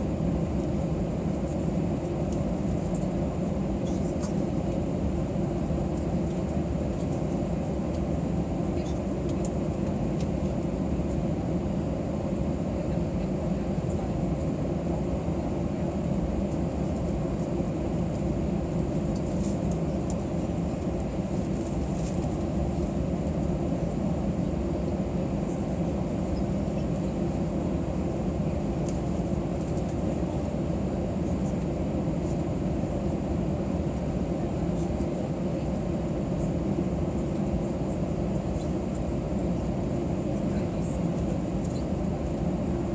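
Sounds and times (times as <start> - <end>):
aircraft cabin rumble: 0.0 - 42.9.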